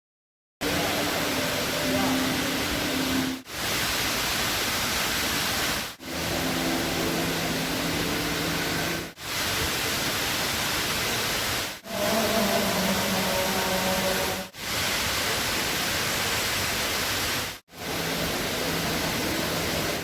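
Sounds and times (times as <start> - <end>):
indoor waterfall rushing: 0.6 - 20.0.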